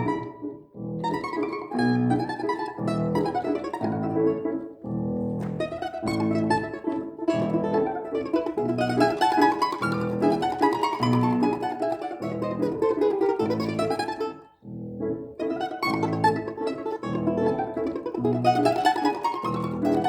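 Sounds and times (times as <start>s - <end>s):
plucked string instrument playing: 0.0s - 20.0s.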